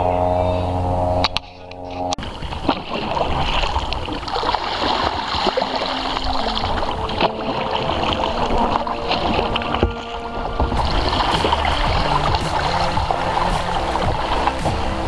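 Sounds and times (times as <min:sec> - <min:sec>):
paddle blades splashing: 0:01.2 - 0:15.0
water lapping along hull: 0:01.2 - 0:15.0.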